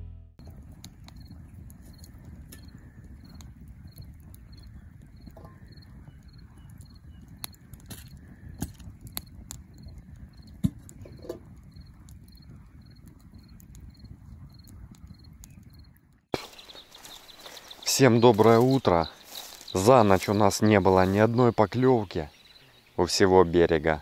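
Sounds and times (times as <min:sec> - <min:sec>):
cricket chirping: 0:00.4 - 0:24.0.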